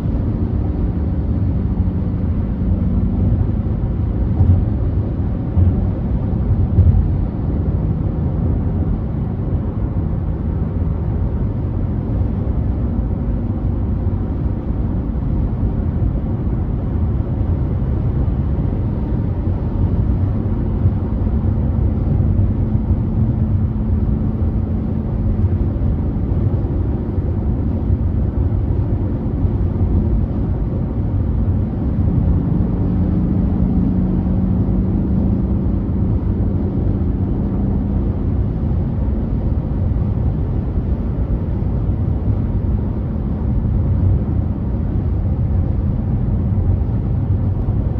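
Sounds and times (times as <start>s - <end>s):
car road and engine rumble: 0.0s - 47.9s.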